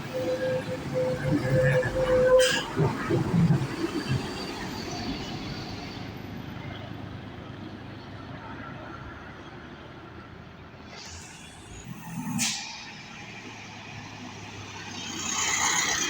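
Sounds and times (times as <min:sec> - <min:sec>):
vehicle rumble and hiss: 0:00.0 - 0:16.0.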